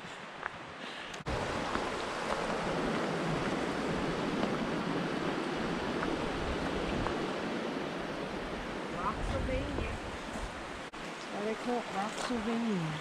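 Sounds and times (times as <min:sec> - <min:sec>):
water rushing over rocks: 0:01.3 - 0:13.0.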